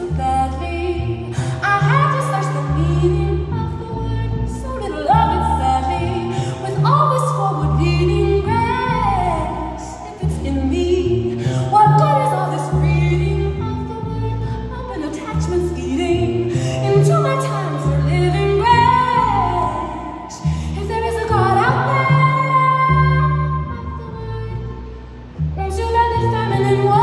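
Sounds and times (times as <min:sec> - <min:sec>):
woman singing: 0:00.0 - 0:24.8, 0:25.6 - 0:27.0
double bass notes: 0:00.0 - 0:27.0.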